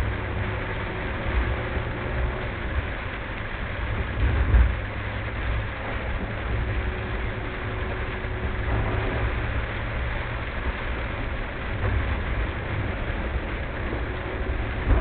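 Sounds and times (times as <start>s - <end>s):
car driving rumble and hiss: 0.0s - 15.0s.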